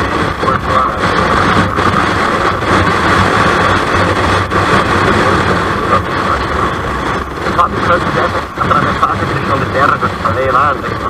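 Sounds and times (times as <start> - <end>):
motorcycle engine droning: 0.0 - 11.0
wind rushing over microphone: 0.0 - 11.0.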